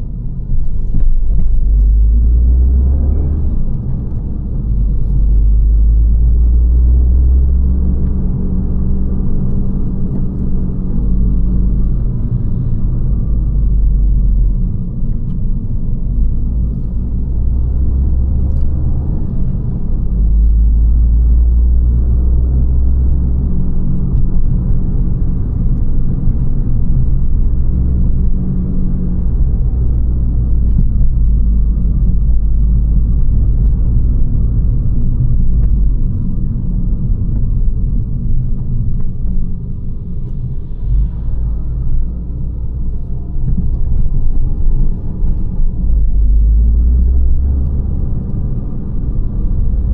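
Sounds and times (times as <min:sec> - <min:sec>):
car engine droning: 0:00.0 - 0:49.9.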